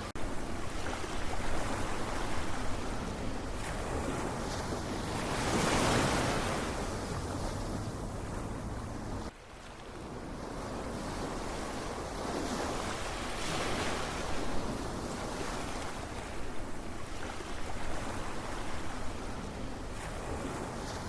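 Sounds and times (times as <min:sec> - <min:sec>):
ocean waves washing in: 0:00.0 - 0:21.0.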